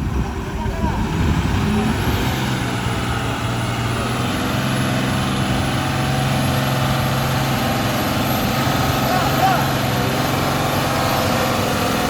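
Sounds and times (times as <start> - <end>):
truck diesel engine straining: 0.0 - 12.0.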